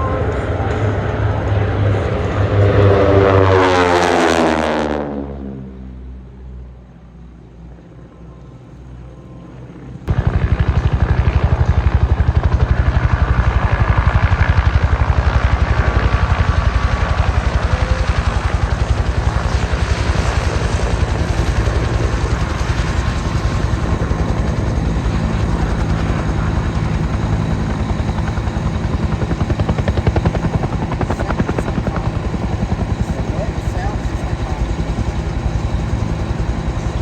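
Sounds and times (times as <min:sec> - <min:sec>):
aircraft low pass: 0:00.0 - 0:37.0
close rhythmic aircraft sound: 0:00.0 - 0:37.0.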